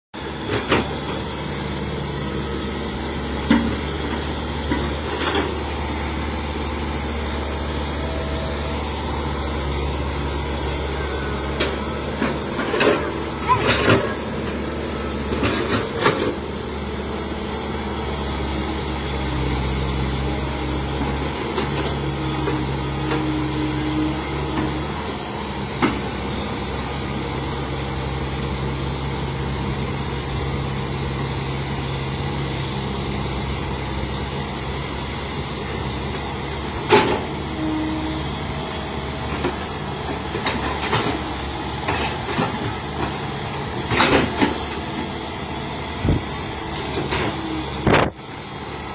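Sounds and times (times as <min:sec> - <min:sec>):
excavator diesel engine running: 0:00.1 - 0:48.9.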